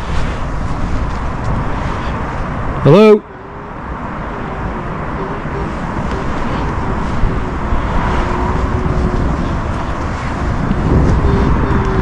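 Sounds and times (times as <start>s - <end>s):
rushing wind noise with rumble: 0.0s - 12.0s.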